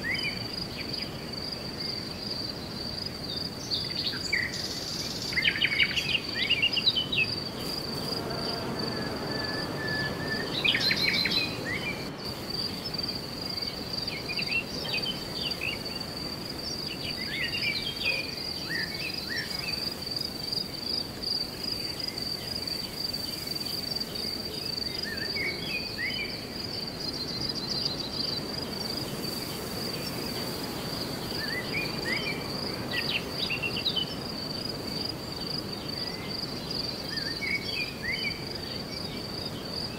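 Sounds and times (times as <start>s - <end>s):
high-pitched insect trill: 0.0s - 39.9s
low background hiss: 0.0s - 39.9s.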